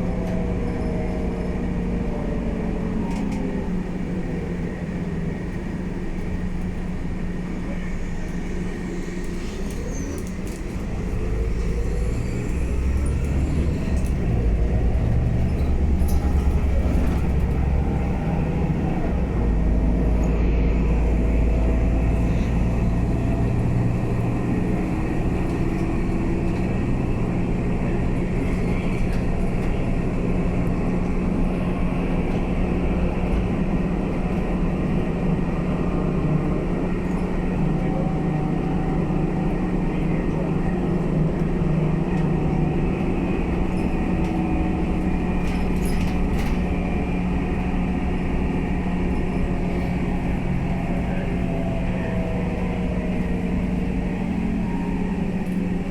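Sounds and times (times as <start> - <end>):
bus engine rumbling: 0.0 - 55.9.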